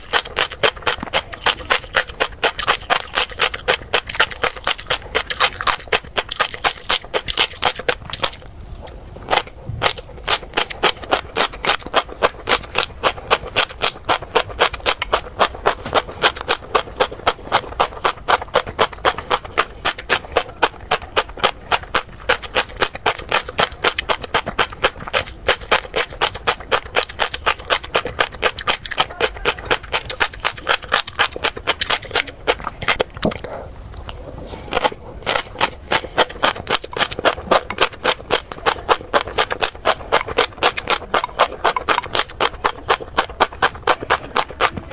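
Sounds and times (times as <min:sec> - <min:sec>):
chewing crunchy fish roe: 0:00.0 - 0:44.9.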